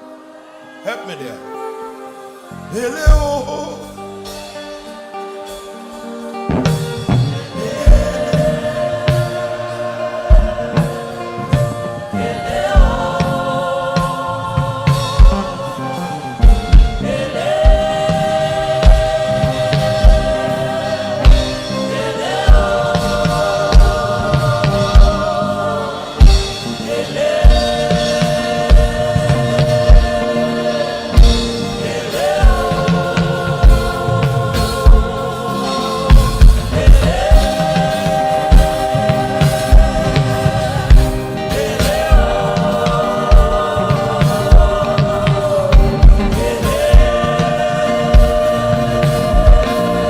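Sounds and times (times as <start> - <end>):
choir singing held notes: 0.0 - 50.0.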